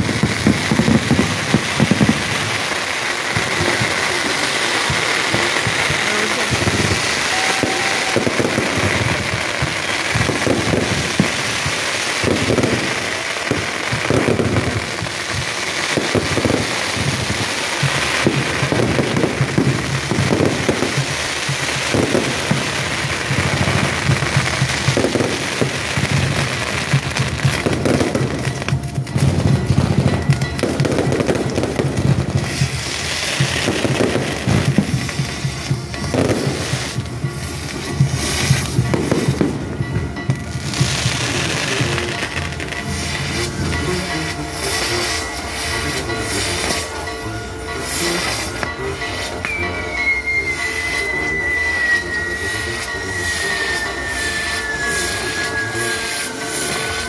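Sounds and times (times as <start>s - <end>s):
rockets and pops: 0.0s - 46.8s
fireworks hissing and crackling: 0.0s - 57.0s
music playing: 0.0s - 57.0s.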